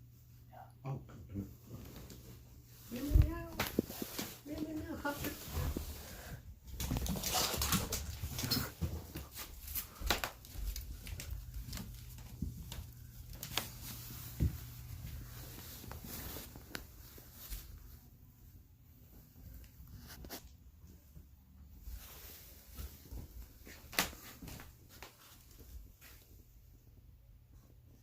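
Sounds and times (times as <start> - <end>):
cat rustling and scuffling with bird: 1.6 - 18.3, 19.0 - 26.8.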